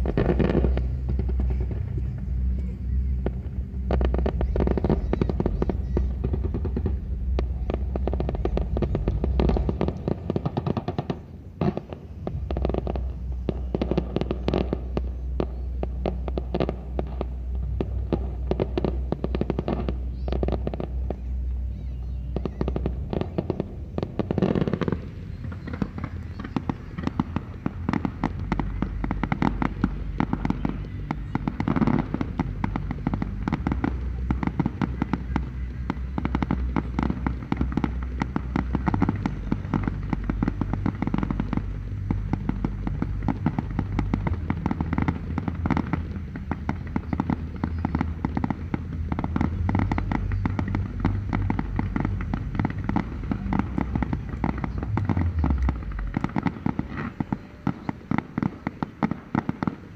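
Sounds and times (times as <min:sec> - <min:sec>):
fireworks crackling and popping: 0:00.0 - 0:59.9.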